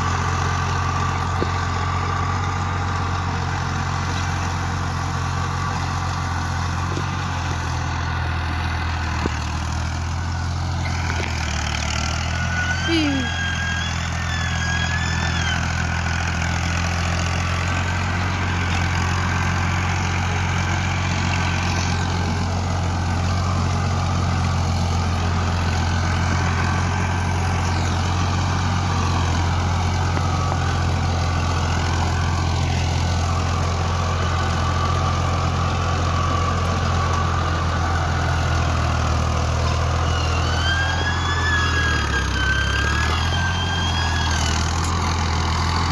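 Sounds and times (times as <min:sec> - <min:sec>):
tractor engine running under load: 0:00.0 - 0:45.9.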